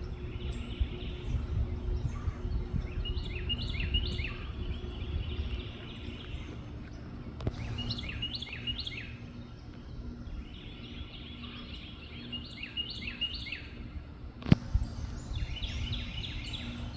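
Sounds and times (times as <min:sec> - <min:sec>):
low outdoor rumble: 0:00.0 - 0:16.9
songbird chirping: 0:00.0 - 0:16.9.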